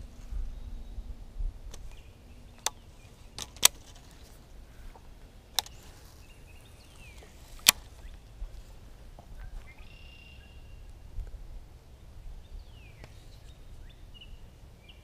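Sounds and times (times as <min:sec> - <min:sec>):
faint bird chirp: 0:01.8 - 0:11.0, 0:11.9 - 0:15.0.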